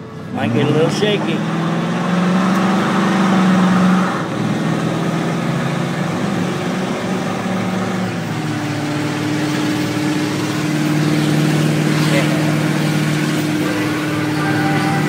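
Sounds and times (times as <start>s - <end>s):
road noise: 0.0s - 15.0s
truck engine driving: 0.0s - 15.0s.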